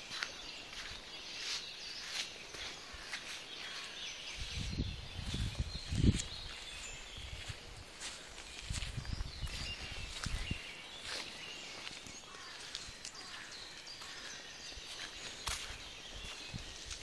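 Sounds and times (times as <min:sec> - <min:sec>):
faint birds chirping: 0:00.0 - 0:17.0
footsteps on dirt path: 0:00.0 - 0:17.0.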